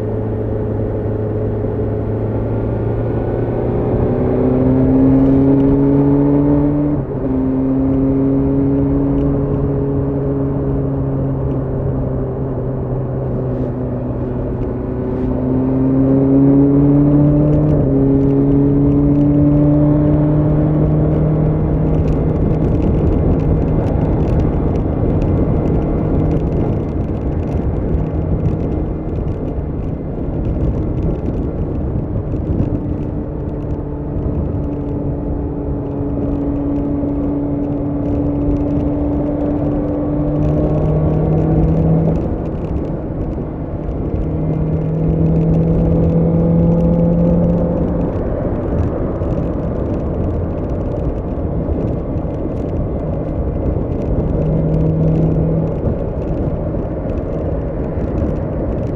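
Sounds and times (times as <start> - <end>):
wind and road rush: 0.0 - 58.9.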